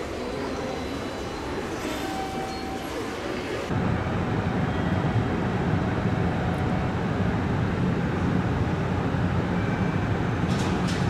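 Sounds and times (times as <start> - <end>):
electric train humming: 0.0 - 10.5.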